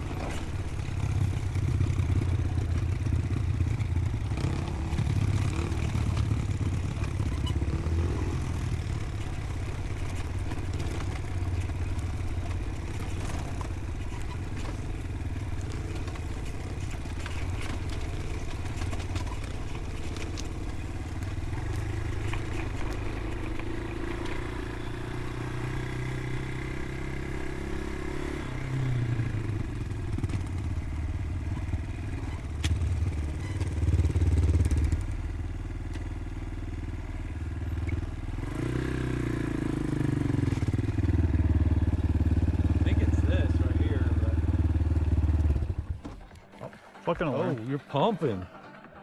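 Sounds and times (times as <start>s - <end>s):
motorcycle engine revving: 0.0s - 48.6s.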